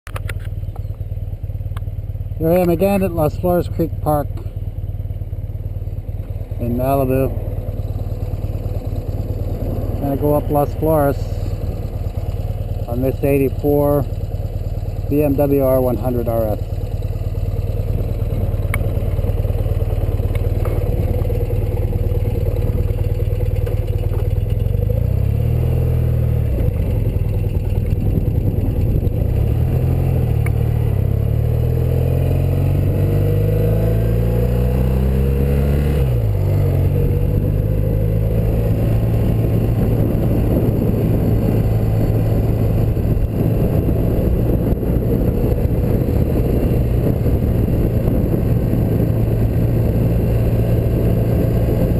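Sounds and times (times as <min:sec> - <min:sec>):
motorcycle engine: 0:00.1 - 0:51.9.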